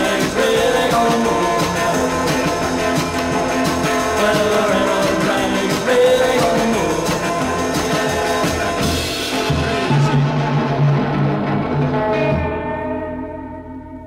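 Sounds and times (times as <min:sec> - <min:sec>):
rock and roll band music: 0:00.0 - 0:14.0.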